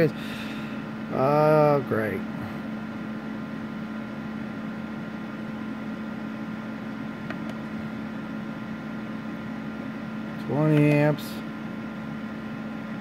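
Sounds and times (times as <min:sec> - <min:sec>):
welder hum and fan noise: 0:00.0 - 0:13.0.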